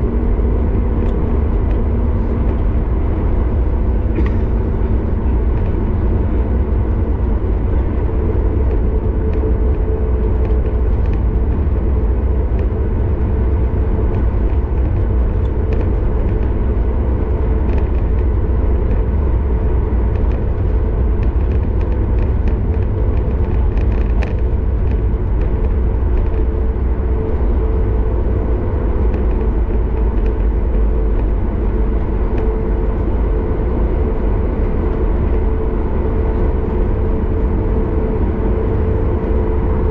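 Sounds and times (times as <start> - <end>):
jet engines low rumble: 0.0 - 39.9
steady hum: 0.0 - 39.9
wheels rolling on taxiway: 0.0 - 39.9.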